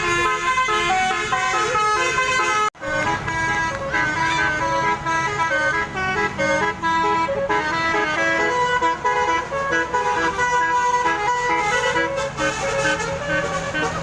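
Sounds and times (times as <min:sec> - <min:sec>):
multi-trumpet bus horn tune: 0:00.0 - 0:14.0
vehicle rumble: 0:00.0 - 0:14.0.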